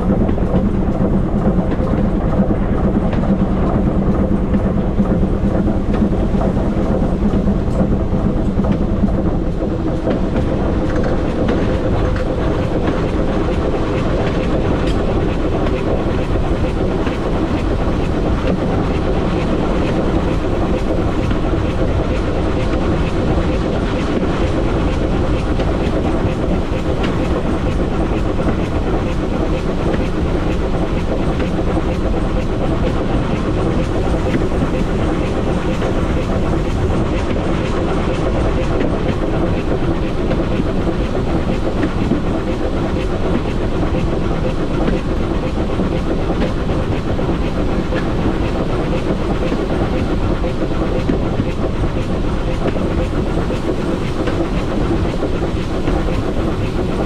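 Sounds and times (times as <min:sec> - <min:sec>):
steam train wheels rumbling on rail: 0:00.0 - 0:57.0.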